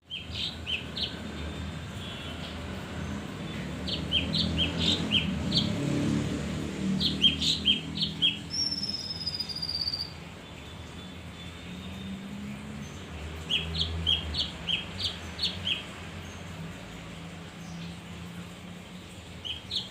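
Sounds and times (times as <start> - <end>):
bird chirping: 0.0 - 6.0, 6.7 - 16.6, 19.4 - 19.9.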